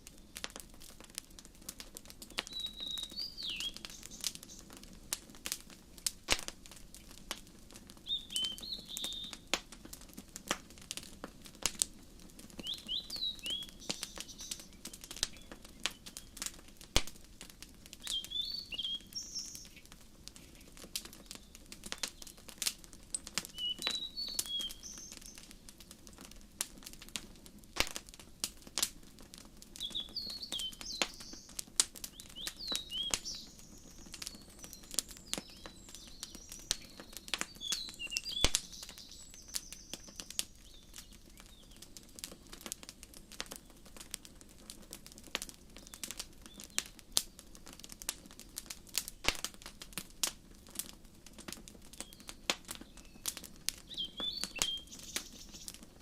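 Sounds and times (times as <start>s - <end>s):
small birds chirping: 0.0s - 16.9s, 17.8s - 27.0s, 29.4s - 44.1s, 45.0s - 49.6s, 51.6s - 56.0s
wood fire crackling: 0.0s - 56.0s.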